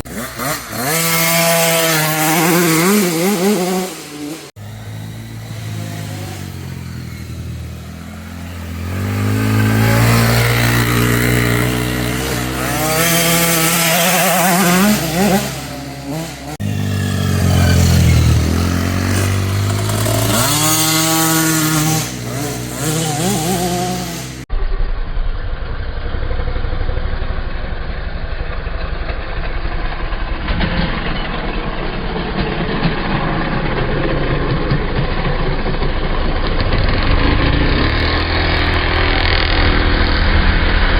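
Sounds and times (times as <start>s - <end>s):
dirt bike engine accelerating: 0.0s - 40.9s.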